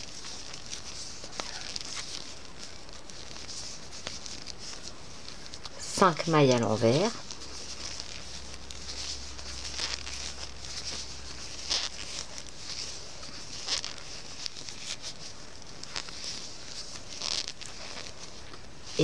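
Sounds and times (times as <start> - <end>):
knitting needles rustling and scratching: 0.0 - 19.0.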